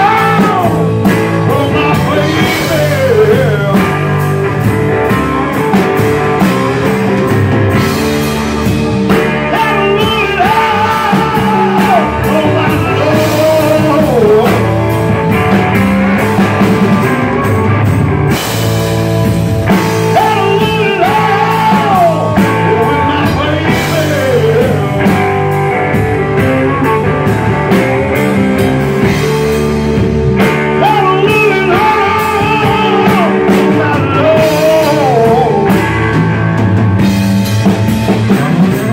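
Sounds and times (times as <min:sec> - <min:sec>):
bass guitar: 0:00.0 - 0:38.9
drum kit: 0:00.0 - 0:38.9
electric guitar lead melody: 0:00.0 - 0:38.9.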